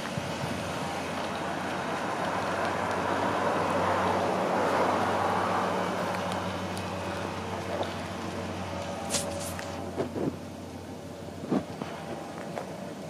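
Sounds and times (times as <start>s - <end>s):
truck engine driving past: 0.0s - 13.0s.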